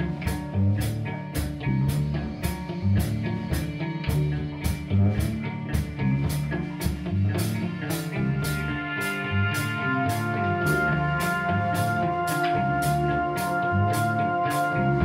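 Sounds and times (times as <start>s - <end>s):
instrumental music with beat: 0.0s - 15.0s.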